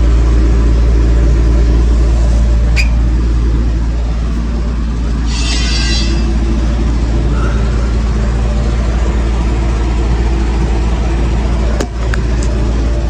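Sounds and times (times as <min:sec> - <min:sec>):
heavy engine idling: 0:00.0 - 0:13.0.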